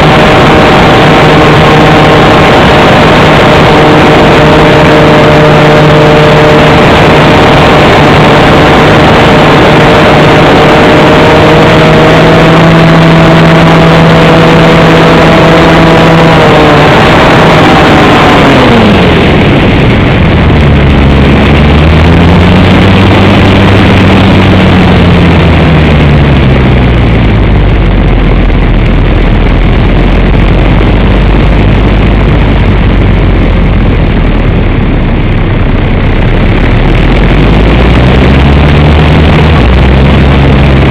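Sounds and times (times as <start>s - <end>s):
electric motor and propeller whine: 0.0s - 40.9s
wind rush: 0.0s - 40.9s.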